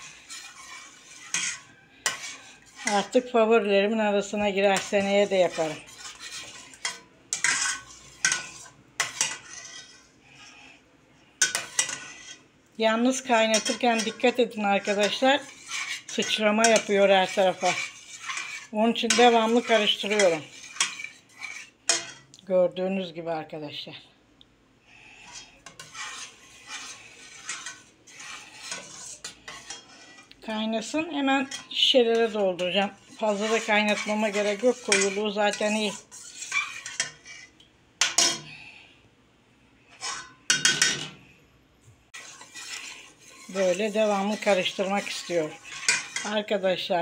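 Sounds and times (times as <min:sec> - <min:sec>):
metal spoon scraping a pot: 0:00.0 - 0:22.4, 0:24.9 - 0:38.7, 0:39.8 - 0:41.3, 0:42.1 - 0:47.0.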